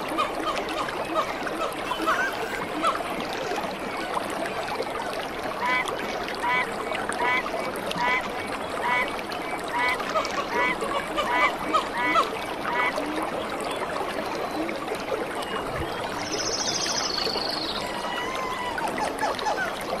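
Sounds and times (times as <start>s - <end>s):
flowing stream water: 0.0s - 20.0s.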